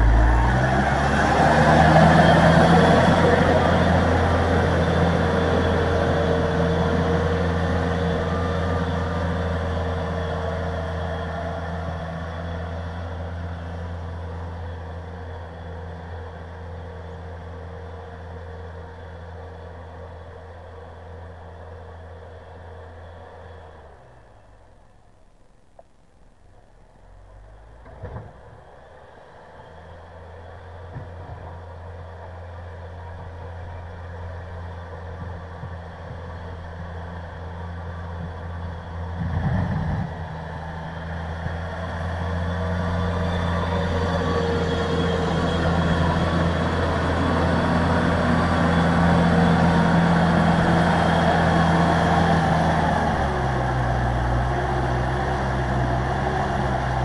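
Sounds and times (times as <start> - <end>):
plow blade pushing wet snow: 0.0 - 24.2, 27.3 - 57.0
wheel loader engine under load: 0.0 - 57.0.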